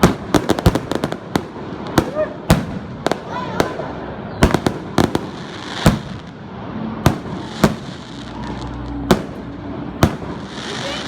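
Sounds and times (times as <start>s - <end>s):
firework bangs: 0.0s - 11.0s
fireworks hiss and rumble: 0.0s - 11.0s.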